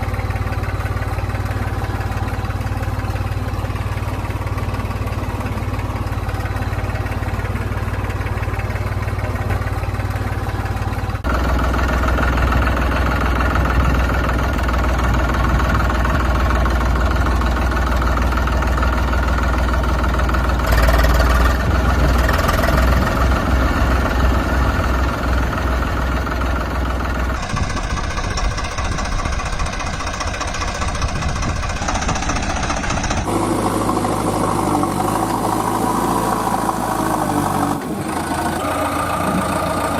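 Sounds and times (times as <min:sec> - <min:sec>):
diesel engines idling with knocking: 0:00.0 - 0:39.9.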